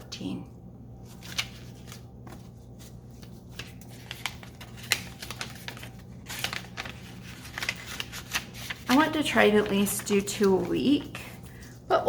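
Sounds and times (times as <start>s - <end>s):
steady low hum: 0.0s - 12.0s
paper rustling and crinkling: 1.0s - 11.8s.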